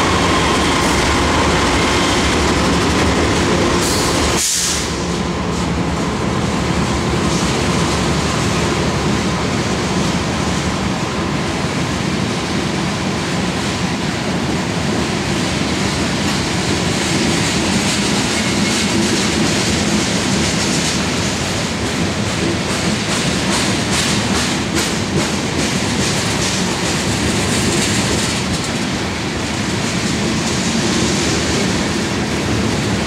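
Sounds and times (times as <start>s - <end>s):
steel wheels on rails: 0.0s - 33.0s.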